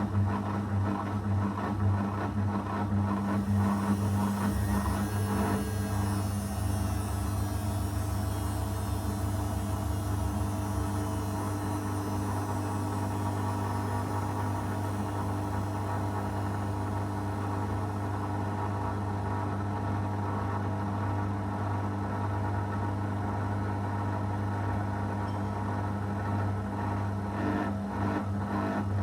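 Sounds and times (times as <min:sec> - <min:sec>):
washing machine running: 0:00.0 - 0:29.0.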